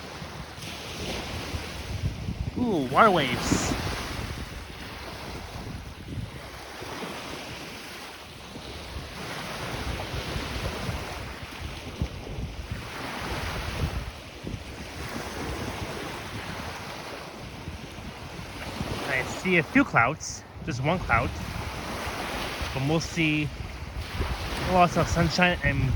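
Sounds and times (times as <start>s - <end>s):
wind buffeting microphone: 0.0s - 19.8s, 20.4s - 22.8s, 23.5s - 25.9s
lake waves washing onto beach: 0.0s - 25.9s.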